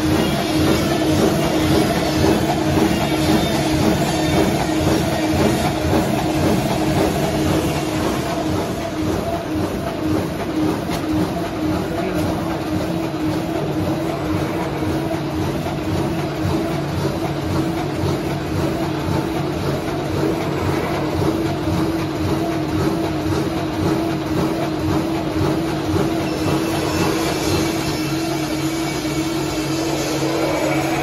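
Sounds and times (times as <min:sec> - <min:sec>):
paper cutting machine humming: 0:00.0 - 0:31.0.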